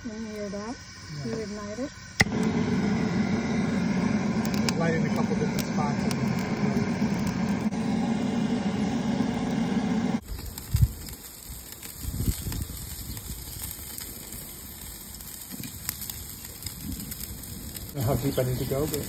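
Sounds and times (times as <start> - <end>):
charcoal crackling: 0.0 - 19.0
propane torch roaring: 0.1 - 19.0.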